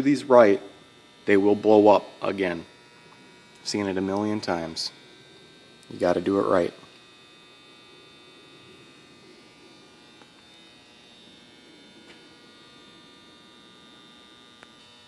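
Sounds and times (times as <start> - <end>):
electrical hum and buzz: 0.0 - 15.0
thin high whine: 0.0 - 15.0.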